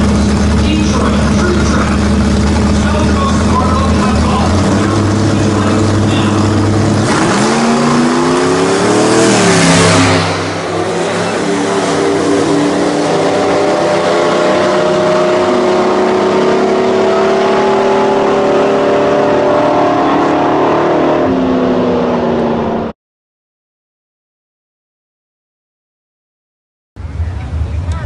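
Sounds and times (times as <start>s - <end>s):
pickup truck engines revving: 0.0s - 22.9s.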